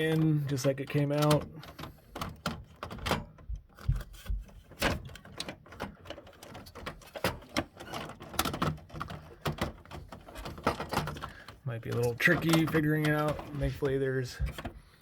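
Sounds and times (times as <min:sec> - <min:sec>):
plastic knocks and clicks: 0:00.0 - 0:15.0.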